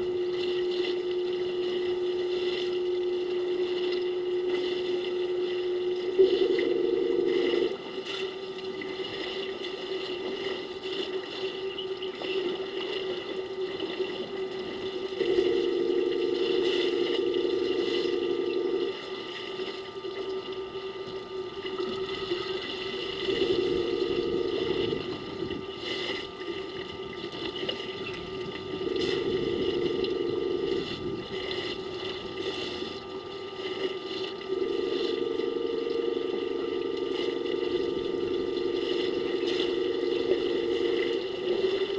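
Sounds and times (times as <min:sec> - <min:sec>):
electrical hum: 0:00.0 - 0:41.9.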